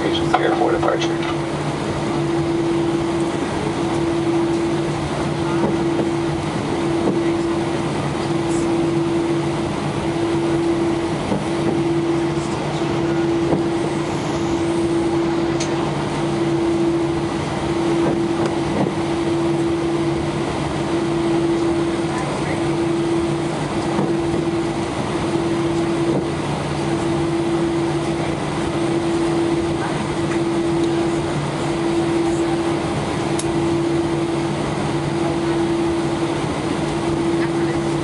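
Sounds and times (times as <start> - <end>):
jet engines idling in cabin: 0.0 - 38.0.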